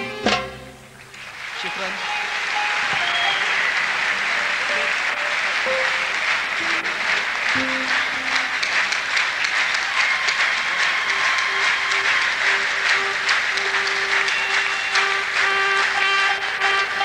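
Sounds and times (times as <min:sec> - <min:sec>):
instruments playing scattered notes: 0:00.0 - 0:17.0
audience applauding: 0:00.9 - 0:17.0.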